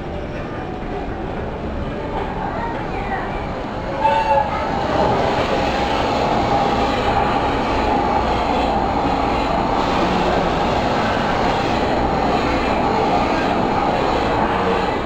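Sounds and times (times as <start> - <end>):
train rumble over loudspeakers: 0.0 - 15.0.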